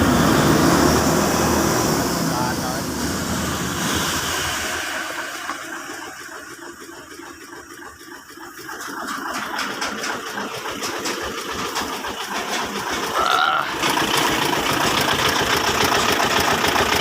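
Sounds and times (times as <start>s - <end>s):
diesel engine rushing noise: 0.0s - 17.0s
rapid even engine clatter: 0.0s - 17.0s.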